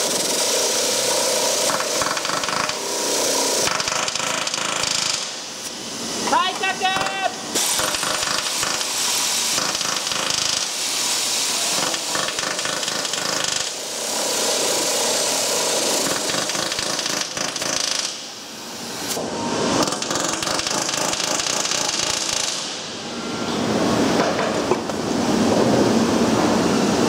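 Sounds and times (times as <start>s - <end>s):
pneumatic tools hammering and rattling: 0.0s - 23.0s.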